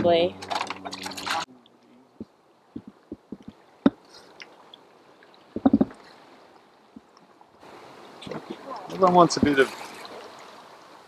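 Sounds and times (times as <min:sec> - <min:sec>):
water lapping against boat hull: 0:00.0 - 0:11.0
faint hiss of moving water: 0:01.4 - 0:11.0.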